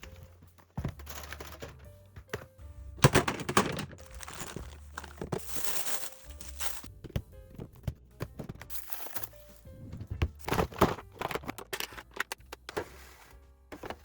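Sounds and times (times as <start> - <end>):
household items knocking and clicking: 0.0 - 13.0
soft background music: 0.0 - 14.0.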